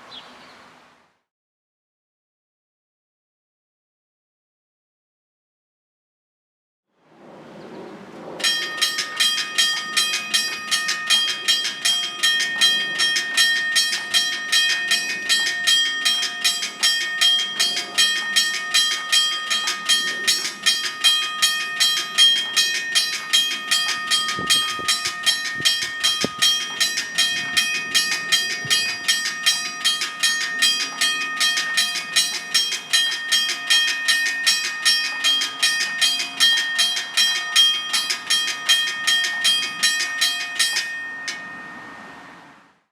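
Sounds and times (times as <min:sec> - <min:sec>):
railroad crossing bell ringing: 0:08.4 - 0:42.9.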